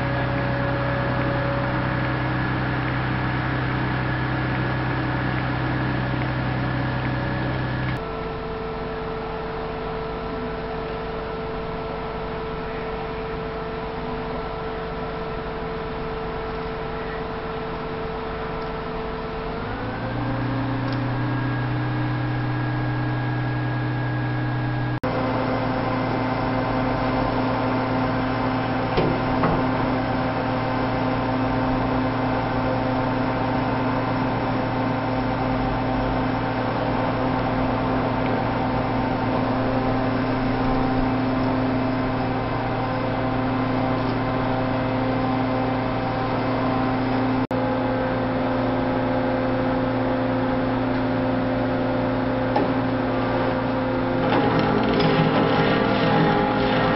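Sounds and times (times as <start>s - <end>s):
crane diesel engine droning: 0.0s - 56.9s.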